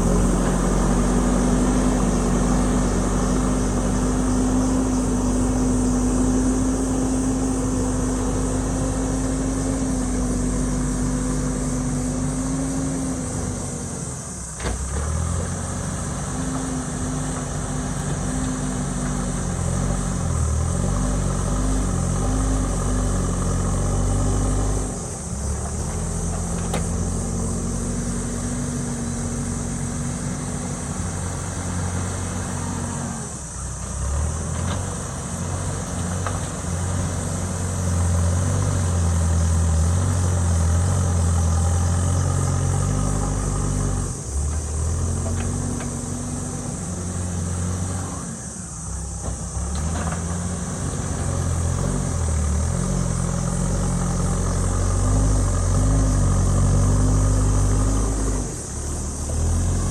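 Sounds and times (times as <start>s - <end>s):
diesel engine working under load: 0.0s - 59.9s.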